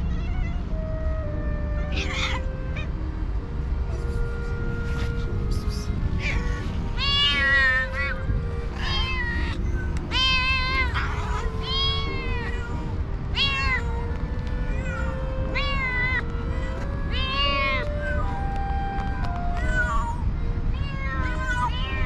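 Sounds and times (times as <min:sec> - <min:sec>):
cats meowing: 0:00.0 - 0:00.8, 0:01.8 - 0:03.0, 0:04.8 - 0:18.7, 0:19.4 - 0:22.0.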